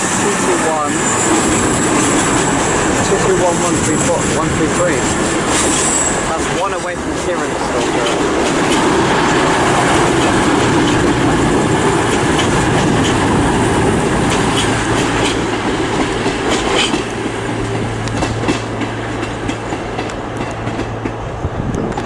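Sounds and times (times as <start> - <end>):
train engine hum: 0.0 - 22.0
train wheels clicking over rail joints: 0.0 - 22.0.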